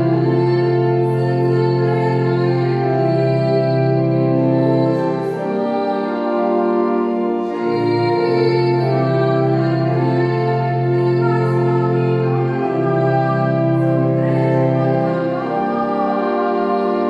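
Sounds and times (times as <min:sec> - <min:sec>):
pipe organ chords: 0:00.0 - 0:17.0.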